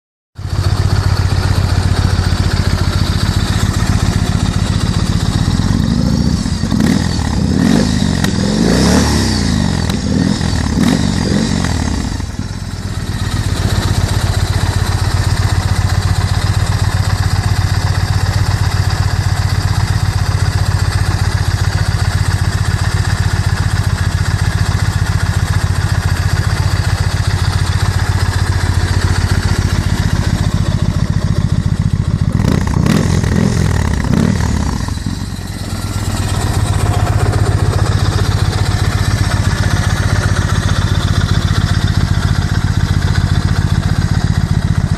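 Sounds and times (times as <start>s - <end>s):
motorcycle engine idling and revving: 0.4s - 44.9s.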